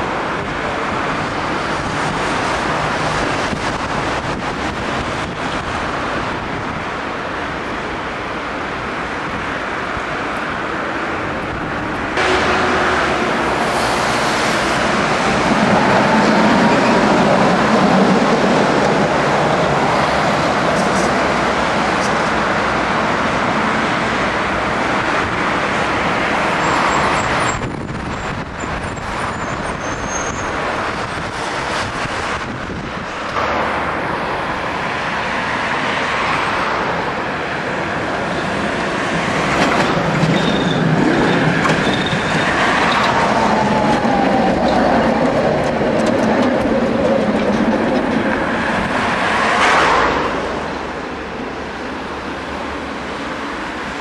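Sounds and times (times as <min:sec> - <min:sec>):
road traffic: 0:00.0 - 0:54.0
trams running on tracks: 0:00.0 - 0:54.0.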